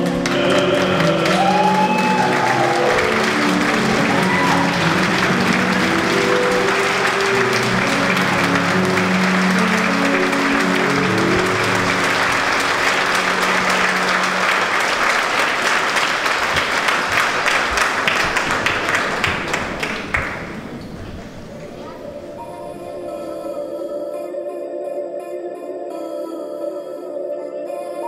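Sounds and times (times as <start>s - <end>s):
music playing: 0.0s - 17.0s, 21.5s - 28.0s
audience applauding: 0.0s - 23.0s.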